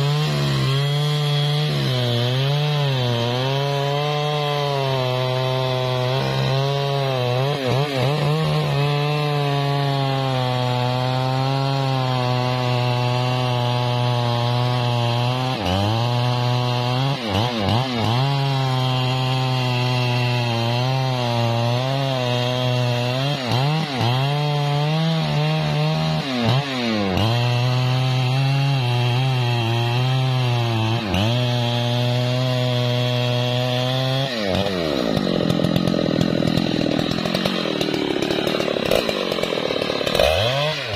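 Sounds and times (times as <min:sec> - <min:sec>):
chainsaw cutting a log: 0:00.0 - 0:40.9.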